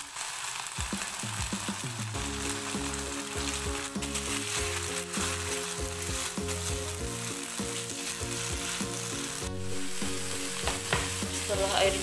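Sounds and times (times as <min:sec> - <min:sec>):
spice paste sizzling in a wok: 0:00.0 - 0:12.0
wooden spatula scraping a pan: 0:00.0 - 0:12.0.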